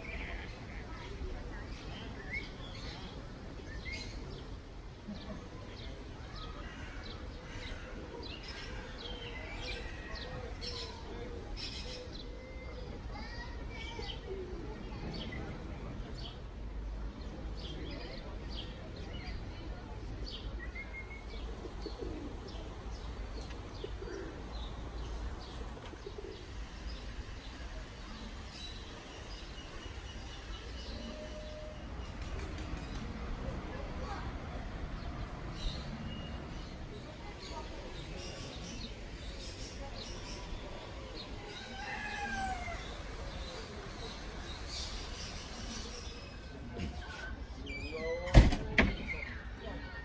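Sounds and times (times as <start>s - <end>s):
low background noise: 0.0s - 50.0s.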